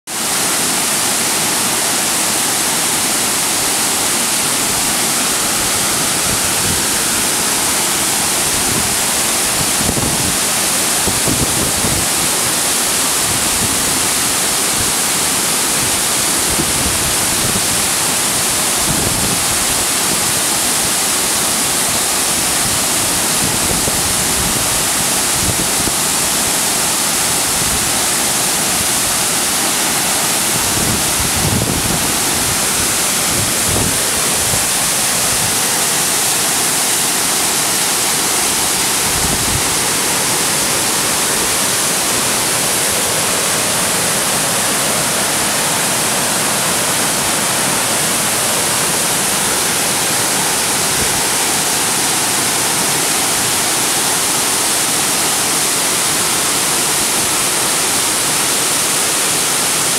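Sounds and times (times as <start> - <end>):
waterfall rushing over rock: 0.1 - 59.9.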